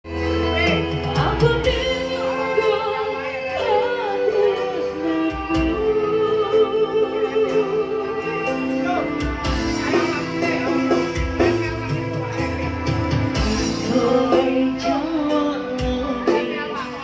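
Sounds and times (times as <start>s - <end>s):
held instrumental tones: 0.1s - 17.0s.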